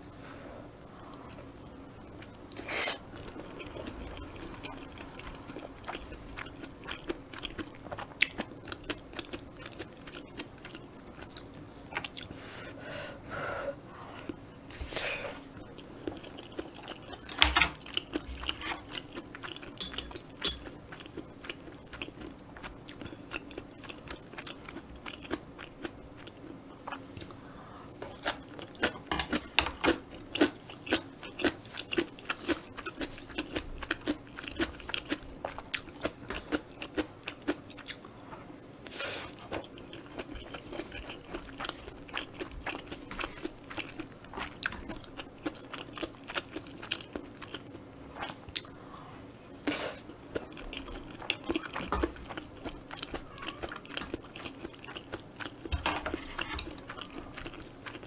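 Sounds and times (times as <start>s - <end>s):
chewing with wet crunches: 2.1s - 12.3s, 15.6s - 27.5s, 28.1s - 38.2s, 39.3s - 49.0s, 50.0s - 58.0s.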